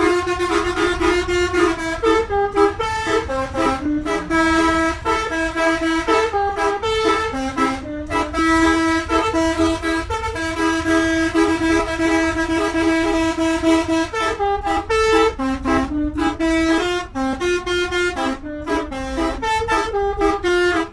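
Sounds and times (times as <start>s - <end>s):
musical bus horn tune: 0.0s - 20.9s.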